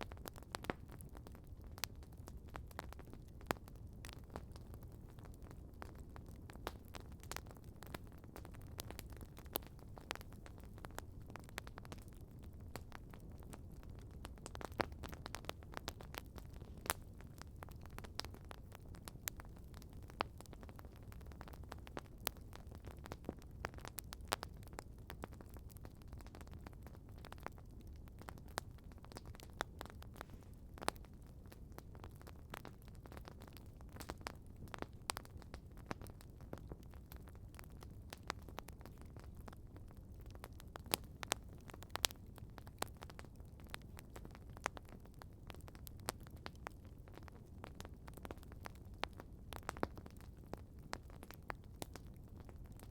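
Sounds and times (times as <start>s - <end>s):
campfire crackling and popping: 0.0s - 52.9s
low rumble of burning: 0.0s - 52.9s.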